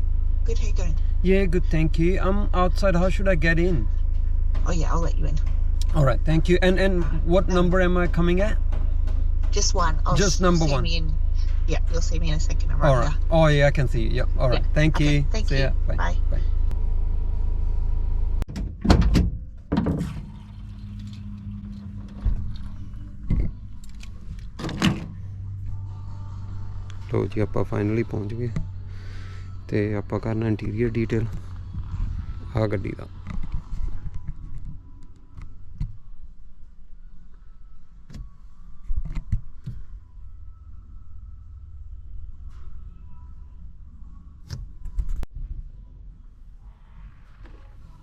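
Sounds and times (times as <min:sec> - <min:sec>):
car engine drone: 0:00.0 - 0:48.0.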